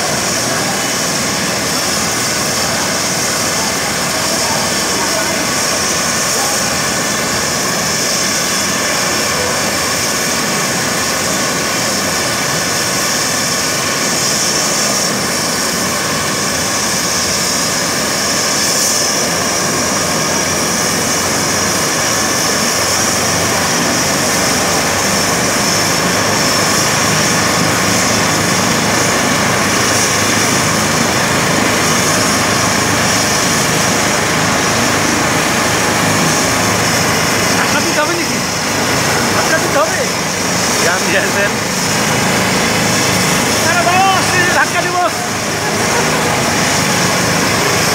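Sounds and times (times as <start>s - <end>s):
helicopter turbine whine: 0.0s - 47.9s.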